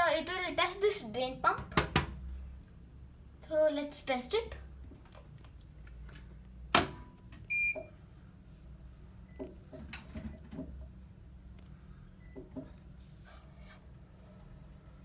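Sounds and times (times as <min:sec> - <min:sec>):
low steady hum: 0:02.2 - 0:15.0.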